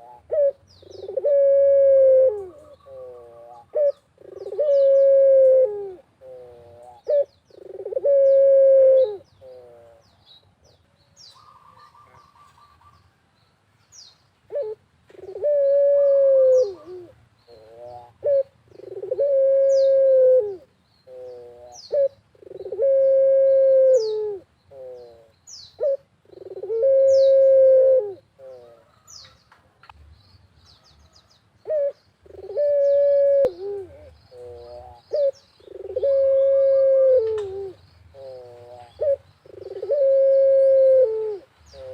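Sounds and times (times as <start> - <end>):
small birds chirping: 0.0 - 1.4, 2.3 - 23.3, 23.9 - 41.9
dove cooing: 0.0 - 10.0, 11.3 - 13.0, 14.5 - 29.2, 31.6 - 41.9.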